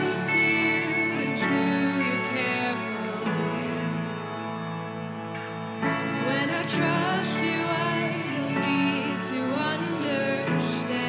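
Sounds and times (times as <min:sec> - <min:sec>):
sustained instrumental chords: 0:00.0 - 0:11.0.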